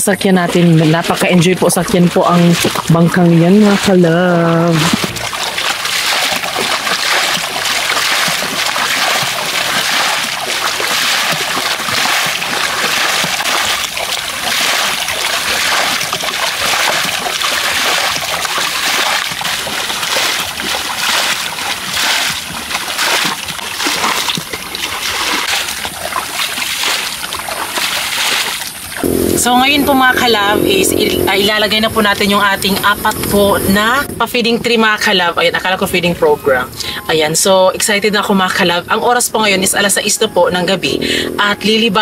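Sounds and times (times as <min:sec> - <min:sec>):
water splashing and sloshing: 0:00.0 - 0:42.0.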